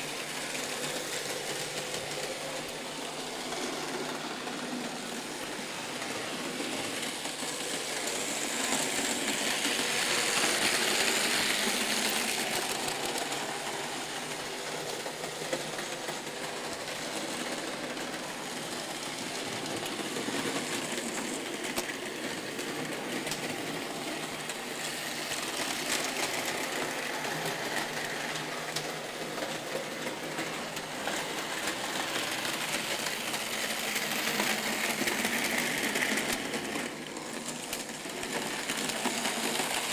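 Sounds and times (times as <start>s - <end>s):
wheels clicking on rails: 0.0s - 39.9s.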